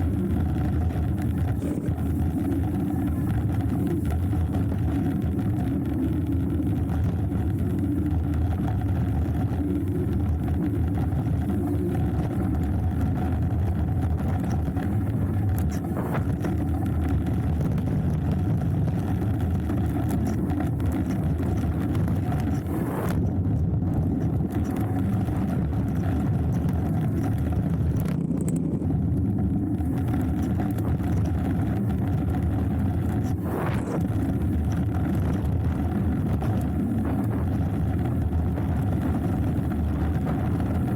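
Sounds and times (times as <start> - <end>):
bike rattling: 0.0 - 40.9
wind and tyres rumbling: 0.0 - 40.9.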